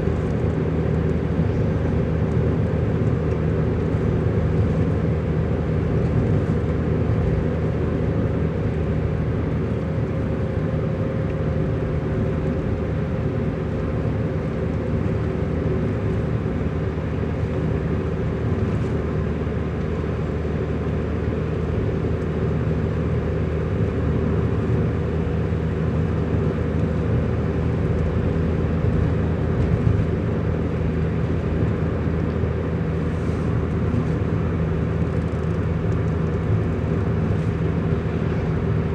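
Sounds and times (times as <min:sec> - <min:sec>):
road noise: 0:00.0 - 0:38.9
vehicle engine drone: 0:00.0 - 0:38.9.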